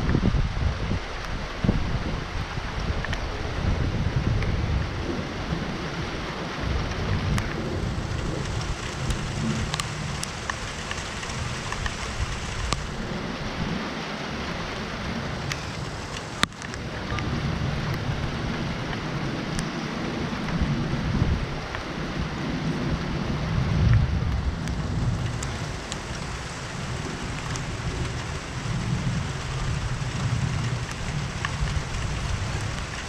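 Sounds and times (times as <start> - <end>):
heavy rain: 0.0 - 33.0
thunder rumble: 0.0 - 33.0.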